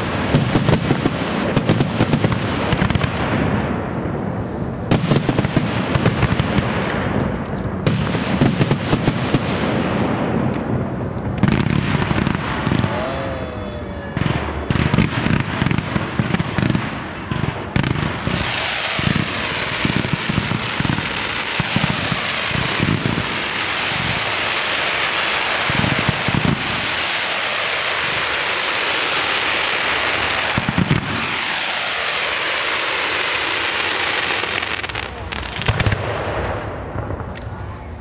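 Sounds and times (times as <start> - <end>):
fireworks crackling hiss: 0.0 - 38.0.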